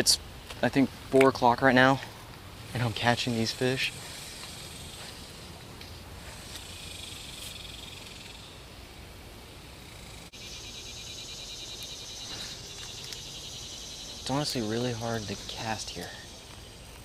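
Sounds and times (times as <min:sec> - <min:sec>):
insects chirring: 0:02.7 - 0:05.6, 0:06.2 - 0:17.0.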